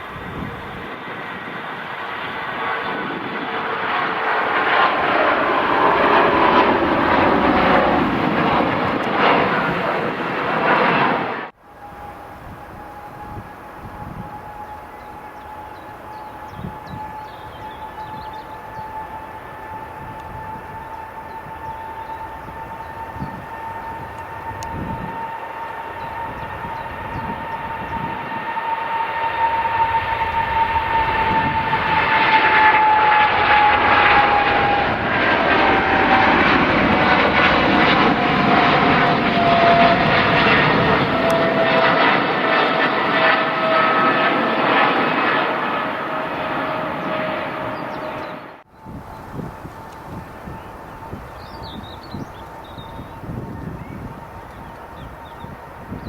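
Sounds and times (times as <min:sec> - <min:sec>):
airliner engines passing: 0:00.0 - 0:56.0
engine whine dropping in pitch: 0:00.0 - 0:56.0.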